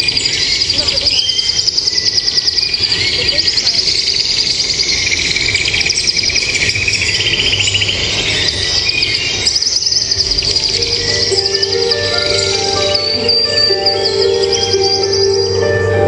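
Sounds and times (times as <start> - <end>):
birds chirping and trilling: 0.0 - 16.0
lower bird trill: 0.0 - 16.0.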